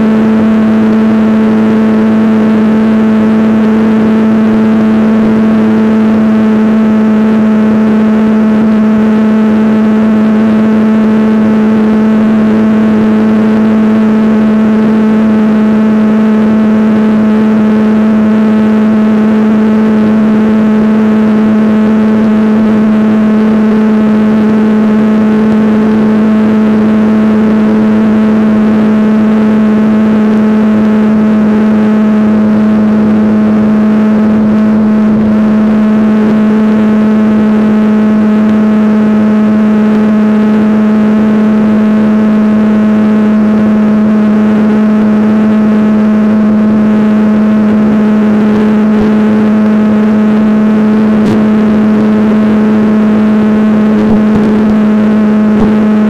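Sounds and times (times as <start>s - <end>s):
model helicopter motor hum: 0.0s - 56.0s.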